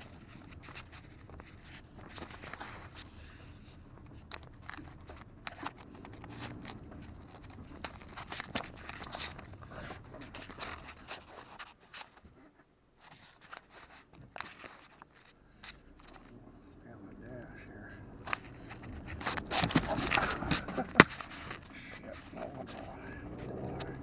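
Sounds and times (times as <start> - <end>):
car driving over rough dirt: 0.0 - 11.1, 15.3 - 24.0
rattles from bouncing vehicle: 0.0 - 12.6, 14.1 - 24.0.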